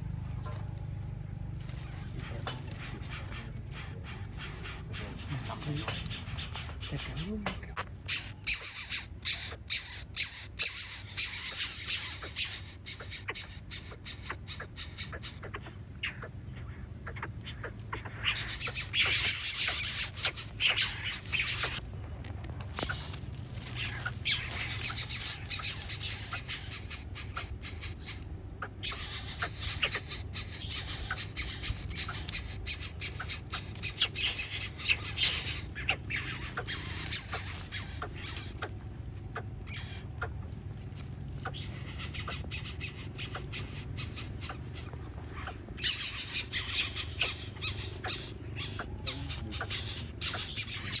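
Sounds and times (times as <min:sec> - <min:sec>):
low steady hum: 0:00.0 - 0:51.0
nestling birds squawking: 0:00.0 - 0:51.0.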